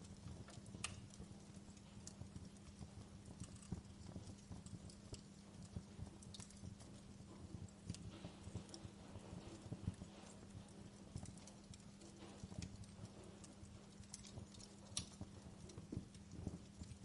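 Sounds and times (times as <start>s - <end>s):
fire rumble: 0.0s - 17.0s
wood fire crackling: 0.0s - 17.0s.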